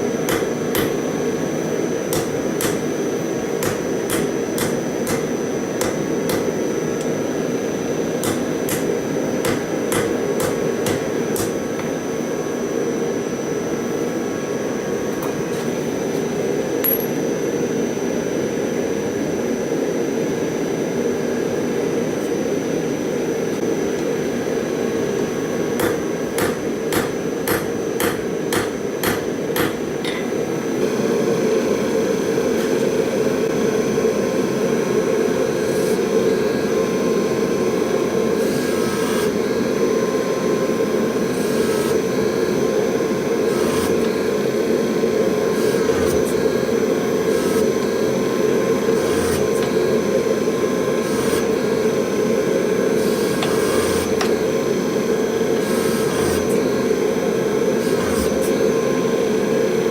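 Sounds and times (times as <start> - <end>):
gas forge burner roar: 0.0 - 59.9.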